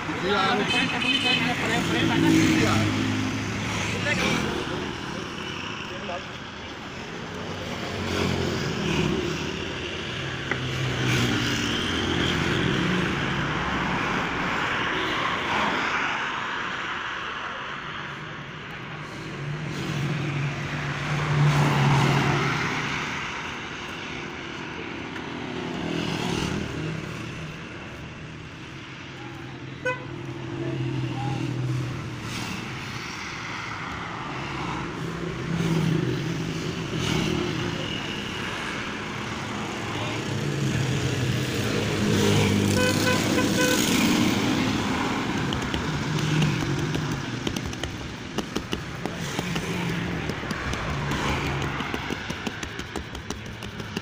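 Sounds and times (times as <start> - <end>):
vehicle engines passing: 0.0 - 54.0.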